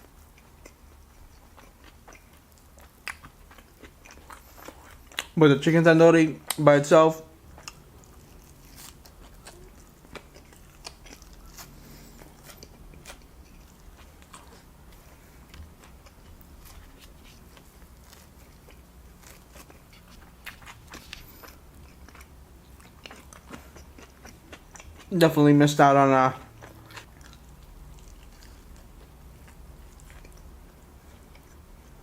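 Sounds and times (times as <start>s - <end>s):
low steady hum: 0.0s - 32.0s
chewing and biting: 0.1s - 5.4s, 7.5s - 25.1s, 26.4s - 32.0s.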